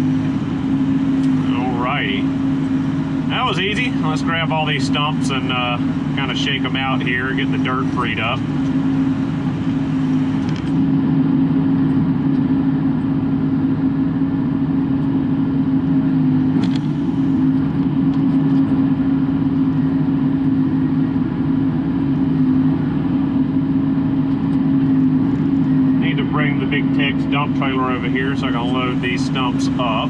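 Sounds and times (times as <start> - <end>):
diesel engine humming: 0.0 - 30.0.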